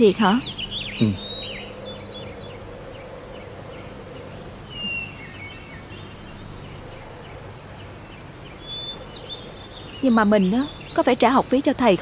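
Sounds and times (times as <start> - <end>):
bird chirping: 0.0 - 12.0
steady background noise: 0.0 - 12.0.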